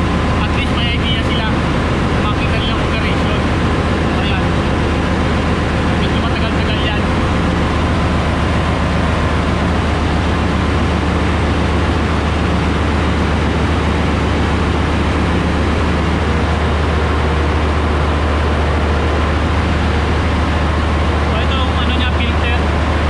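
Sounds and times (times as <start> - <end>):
engine room machinery drone: 0.0 - 23.0.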